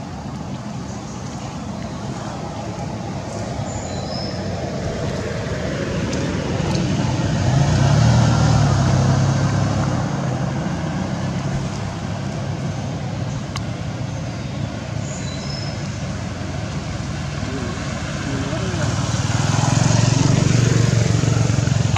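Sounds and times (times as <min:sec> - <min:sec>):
traffic rumble: 0:00.0 - 0:21.9
vehicle engine passing: 0:01.1 - 0:14.1, 0:15.7 - 0:21.9.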